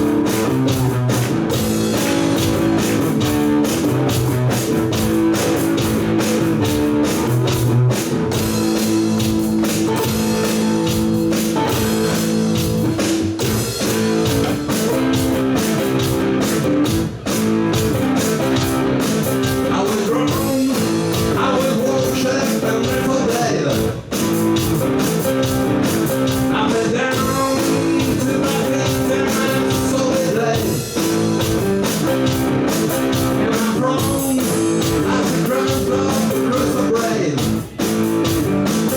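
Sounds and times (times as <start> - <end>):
electric guitars: 0.0 - 38.9
rock band playing: 0.0 - 38.9.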